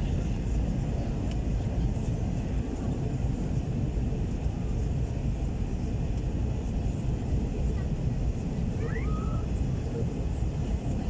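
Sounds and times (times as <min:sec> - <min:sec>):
airliner engine roar: 0:00.0 - 0:11.0.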